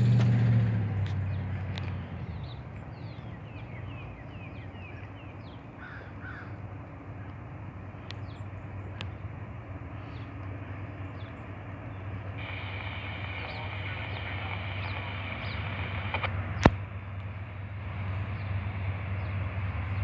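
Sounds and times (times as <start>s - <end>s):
birds chirping: 0.0s - 20.0s
diesel locomotive rumble: 0.0s - 20.0s.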